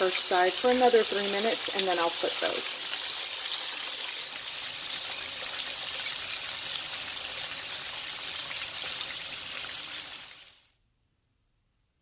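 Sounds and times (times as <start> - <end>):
chicken frying in hot oil: 0.0 - 10.8.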